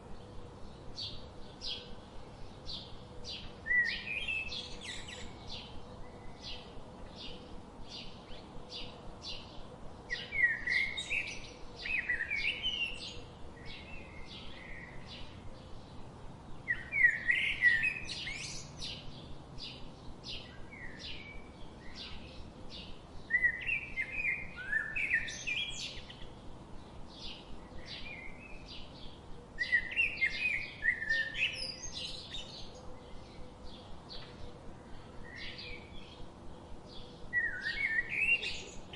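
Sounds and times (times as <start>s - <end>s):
bird twittering song: 0.1s - 38.9s.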